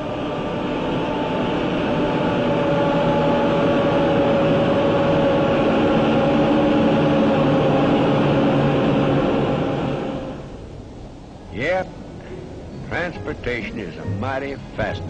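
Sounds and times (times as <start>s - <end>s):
moving train noise: 0.0s - 15.0s.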